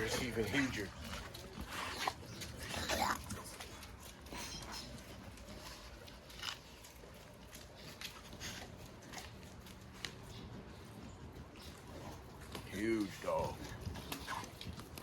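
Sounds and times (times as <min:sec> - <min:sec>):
dog mouth noises: 0:00.0 - 0:10.7, 0:11.3 - 0:15.0
dogs clicking and scuffing: 0:00.0 - 0:15.0.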